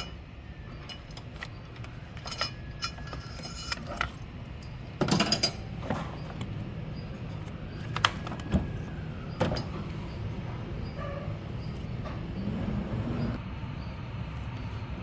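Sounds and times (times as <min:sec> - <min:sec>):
metal tools clinking and knocking: 0:00.0 - 0:12.2
steady low hum: 0:00.0 - 0:15.0.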